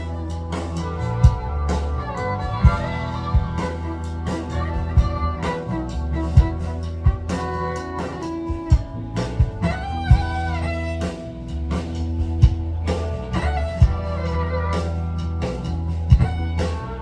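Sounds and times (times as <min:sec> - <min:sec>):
bass line: 0:00.0 - 0:17.0
guitar: 0:00.0 - 0:17.0.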